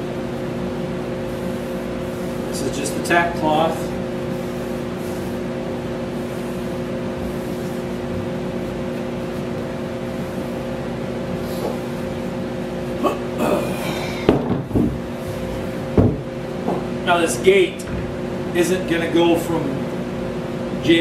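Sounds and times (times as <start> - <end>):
appliance machine hum: 0.0 - 21.0.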